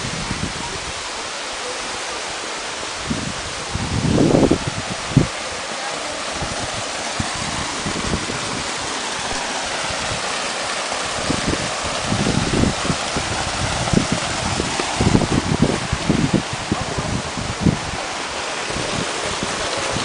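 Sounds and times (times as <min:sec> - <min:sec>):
wind buffeting microphone: 0:00.0 - 0:01.2, 0:02.8 - 0:20.0
waterfall and stream rushing: 0:00.0 - 0:20.0.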